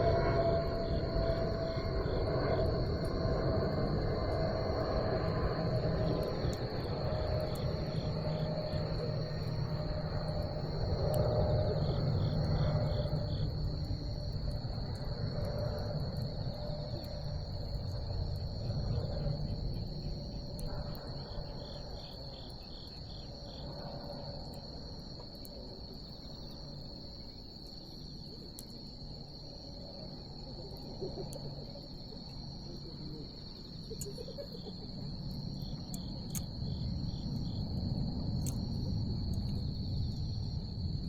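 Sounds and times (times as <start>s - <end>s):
insects trilling: 0.0s - 41.0s
rapid pulsed insect chirps: 0.0s - 41.0s.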